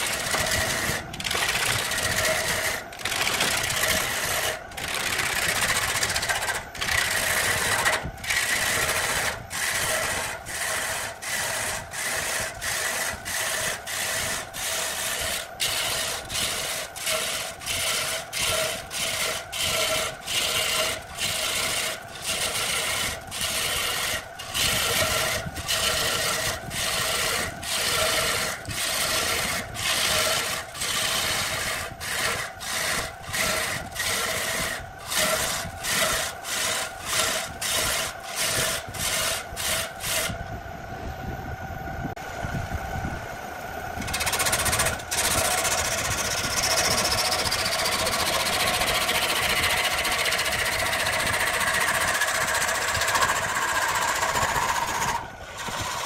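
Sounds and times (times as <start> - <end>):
lathe tool scraping wood: 0.0 - 40.4, 44.0 - 56.0
steady machine whine: 0.0 - 56.0.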